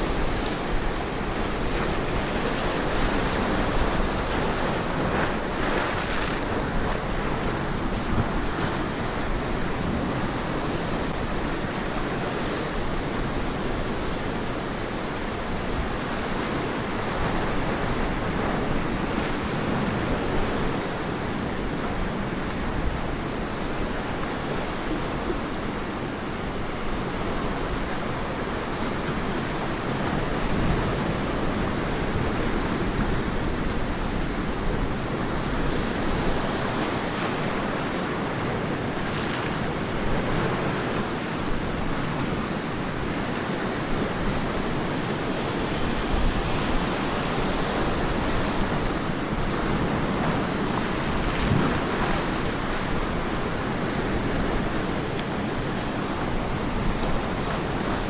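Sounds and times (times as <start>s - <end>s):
ocean surf washing onto beach: 0.0s - 58.0s
wind on microphone: 0.0s - 58.0s.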